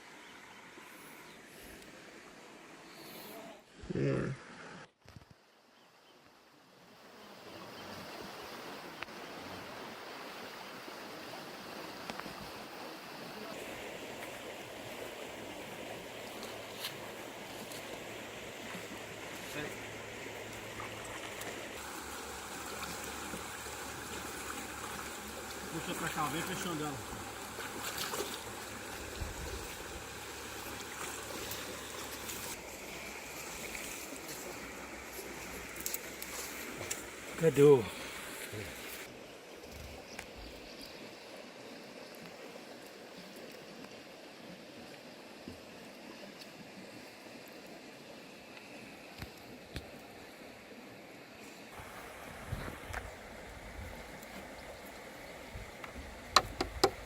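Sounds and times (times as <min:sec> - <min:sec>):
stream water flowing: 0:00.0 - 0:04.8, 0:05.5 - 0:57.0.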